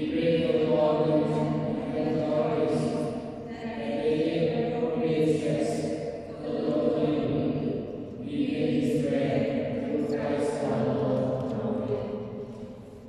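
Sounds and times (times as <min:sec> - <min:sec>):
person chanting a prayer: 0:00.0 - 0:12.6.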